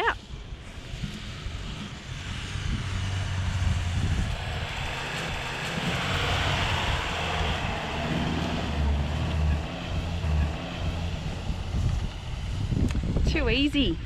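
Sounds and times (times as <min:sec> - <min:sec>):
car engine under load: 0:00.2 - 0:13.3.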